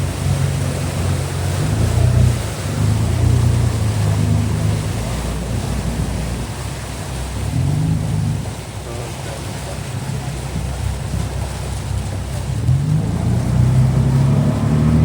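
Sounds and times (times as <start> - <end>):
ferry engines running: 0.0 - 15.0
water noise: 0.0 - 15.0
wind: 0.0 - 15.0.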